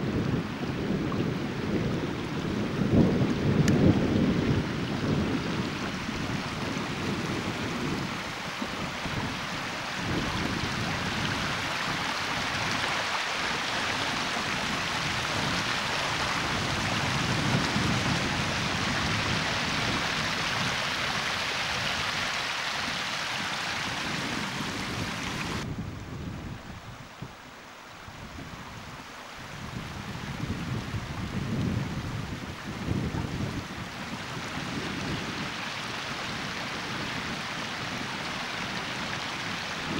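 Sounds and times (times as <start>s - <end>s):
wind buffeting microphone: 0.0s - 27.4s, 28.0s - 39.9s
floodwater rushing: 0.0s - 39.9s.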